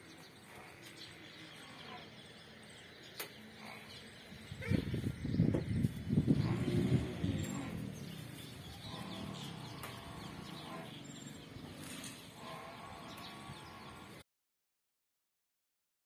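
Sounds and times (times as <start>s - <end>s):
bird calls: 0.0s - 14.2s.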